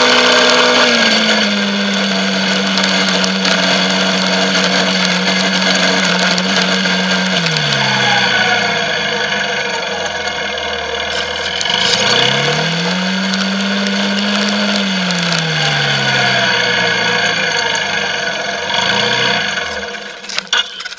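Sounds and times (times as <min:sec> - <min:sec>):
quad bike engine revving: 0:00.0 - 0:20.9.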